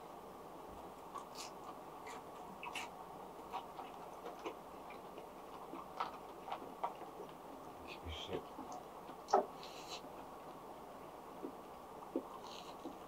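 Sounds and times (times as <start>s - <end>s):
low room noise hiss: 0.0s - 13.0s
faint chewing: 0.8s - 13.0s.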